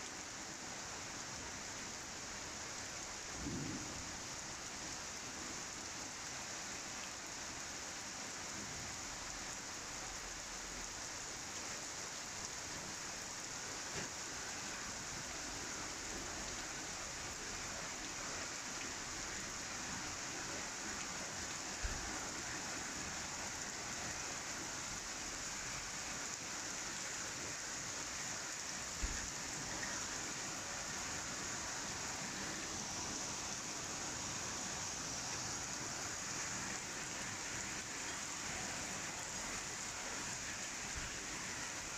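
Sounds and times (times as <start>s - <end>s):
rain on plants: 0.0s - 41.9s.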